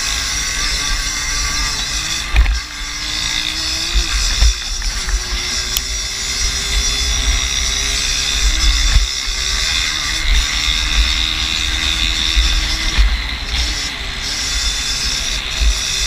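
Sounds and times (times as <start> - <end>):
moped engine revving high: 0.0 - 16.0
wind rumbling on microphone: 0.0 - 16.0.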